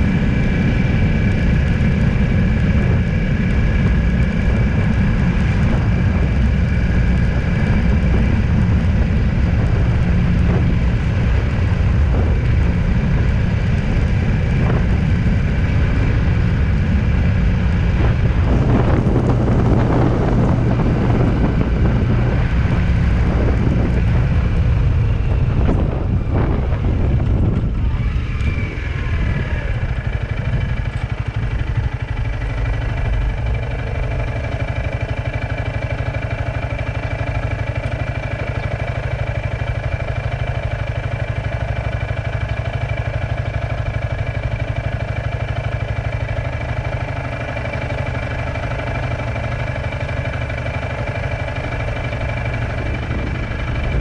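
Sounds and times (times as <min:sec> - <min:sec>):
vehicle engine running: 0:00.0 - 0:54.0
wind noise: 0:00.0 - 0:54.0.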